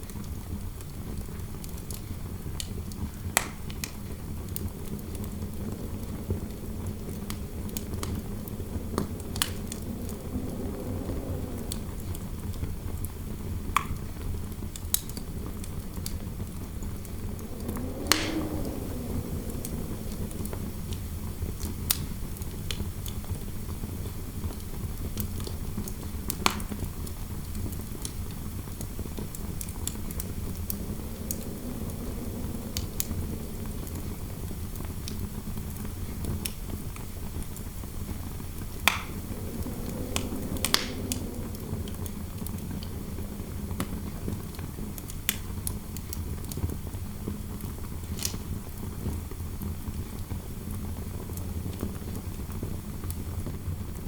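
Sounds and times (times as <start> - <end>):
fire crackling with sharp pops: 0.0 - 54.0
low wind noise rumble: 0.0 - 54.0.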